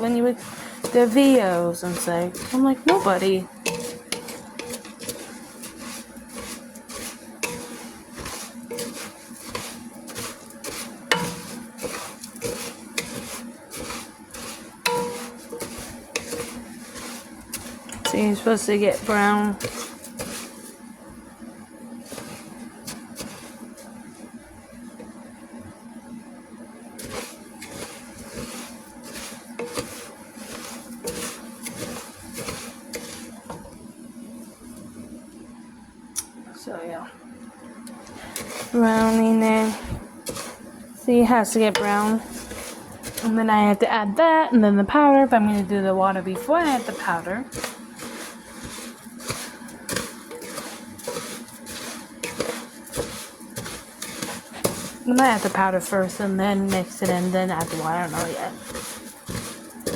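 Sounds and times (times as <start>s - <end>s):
utensil stirring and scraping pan: 0.0s - 25.2s, 26.8s - 35.0s, 38.0s - 43.8s, 45.1s - 59.9s
food sizzling: 0.0s - 36.3s, 37.8s - 59.9s.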